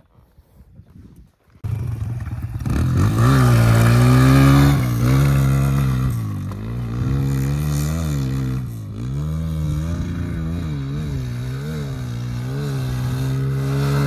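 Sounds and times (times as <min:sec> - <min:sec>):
dirt bike engine revving: 0:01.6 - 0:14.0.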